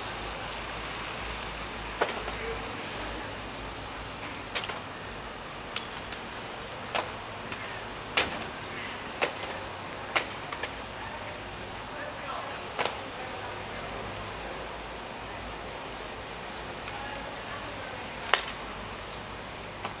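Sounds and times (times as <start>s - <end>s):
outdoor hiss: 0.0s - 20.0s.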